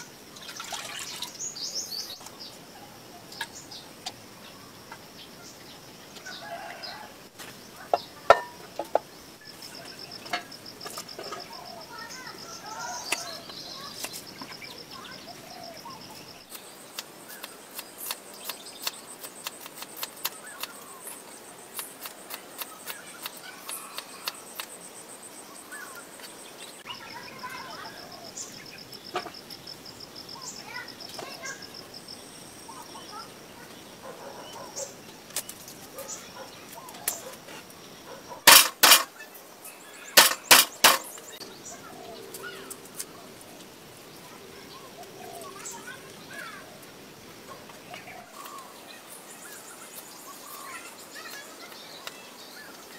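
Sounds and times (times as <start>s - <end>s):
birds chirping: 0.0s - 52.9s
insects trilling: 0.0s - 52.9s.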